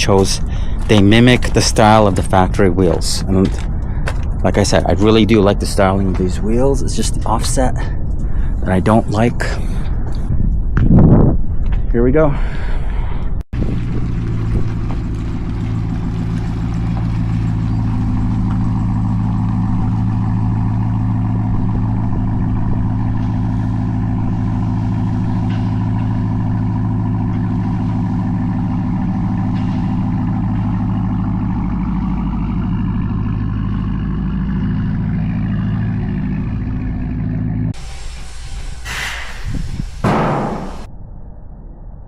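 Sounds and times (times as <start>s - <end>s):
truck engine running: 0.0s - 10.8s, 13.6s - 40.9s.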